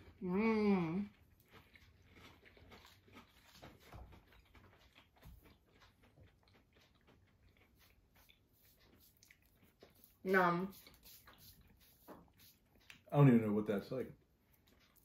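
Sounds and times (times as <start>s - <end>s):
people chewing softly: 0.0s - 15.0s.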